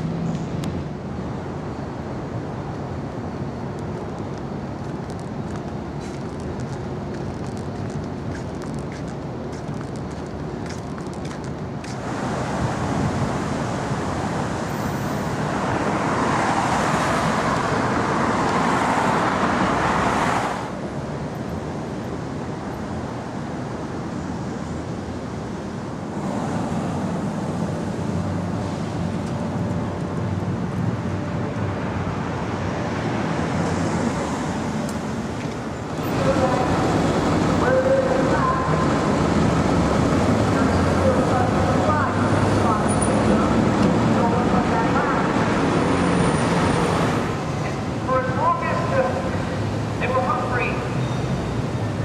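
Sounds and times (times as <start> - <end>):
passing traffic: 0.0 - 52.0.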